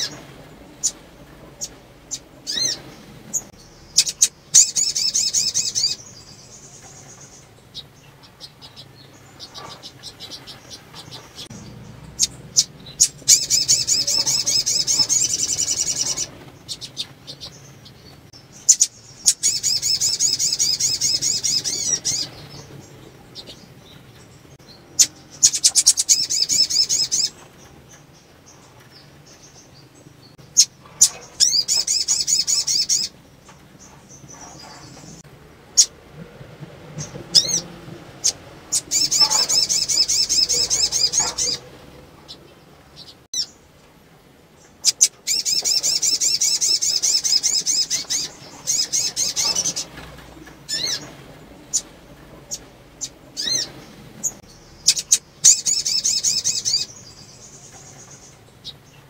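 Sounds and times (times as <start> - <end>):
bird trilling calls: 0.0 - 23.8, 24.9 - 27.4, 30.4 - 33.2, 37.0 - 43.6, 44.8 - 58.8.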